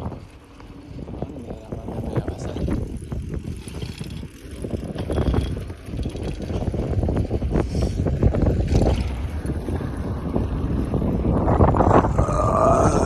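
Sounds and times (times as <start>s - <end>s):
bike rattling: 0.0s - 13.0s
tyres rumbling on trail: 0.0s - 13.0s
wind buffeting microphone: 0.0s - 13.0s.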